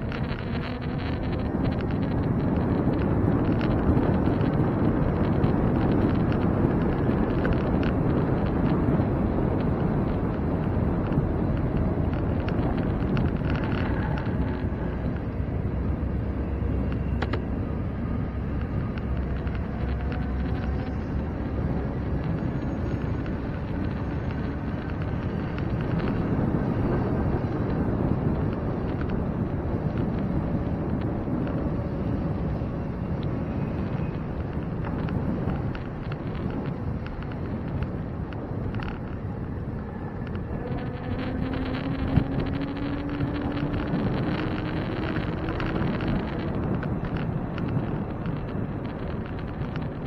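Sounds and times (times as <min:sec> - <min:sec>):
road noise: 0:00.0 - 0:50.0
wind rushing over microphone: 0:00.0 - 0:50.0.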